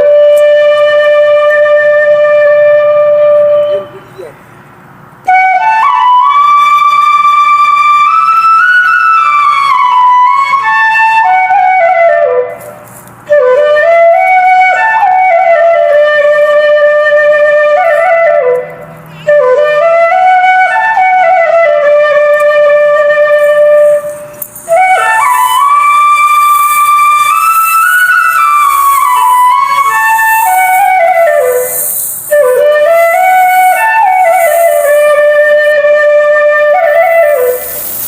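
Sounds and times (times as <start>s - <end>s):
solo flute melody: 0.0s - 4.3s, 5.2s - 38.0s.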